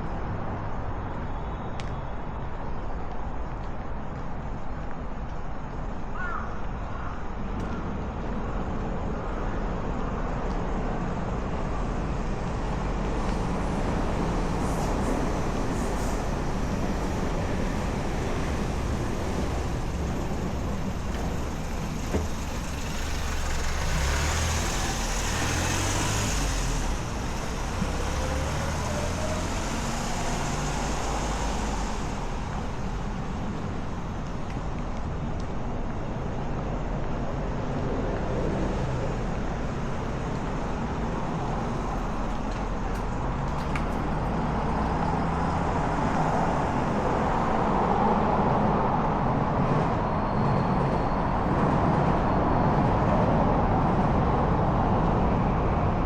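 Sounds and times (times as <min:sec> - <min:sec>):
vehicles passing with tyre noise: 0:00.0 - 0:56.0.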